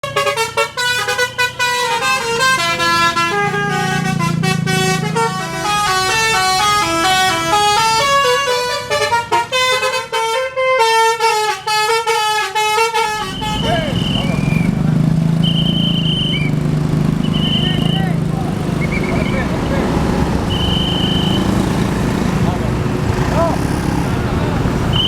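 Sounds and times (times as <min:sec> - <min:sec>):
multi-tone bus horn playing a tune: 0:00.0 - 0:16.5, 0:17.2 - 0:22.4.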